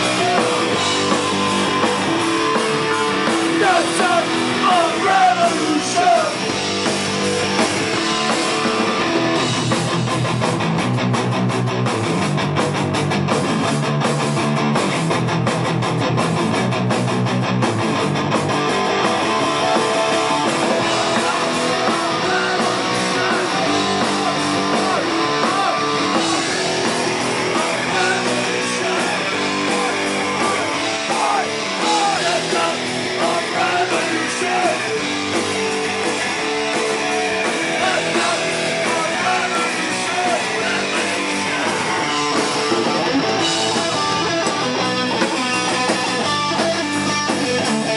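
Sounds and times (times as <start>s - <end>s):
electric guitar: 0.0s - 47.9s
rock band playing live: 0.0s - 47.9s.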